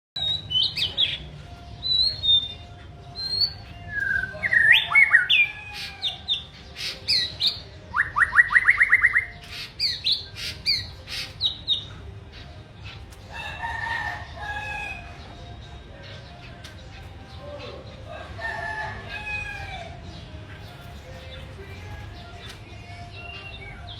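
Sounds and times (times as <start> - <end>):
songbird singing: 0.2 - 23.9.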